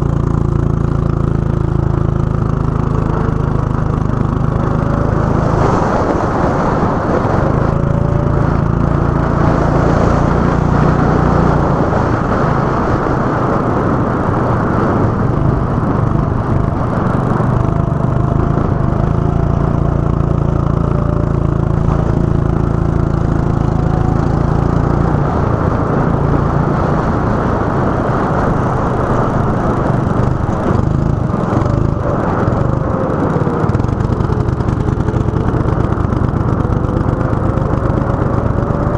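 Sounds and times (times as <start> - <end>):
fainter second engine: 0.0 - 38.9
go-kart engine running: 0.0 - 38.9.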